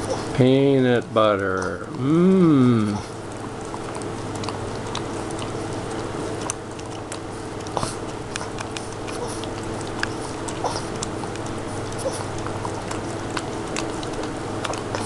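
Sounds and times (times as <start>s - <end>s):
dog licking and lapping: 0.0s - 15.0s
steady low hum: 0.0s - 15.0s.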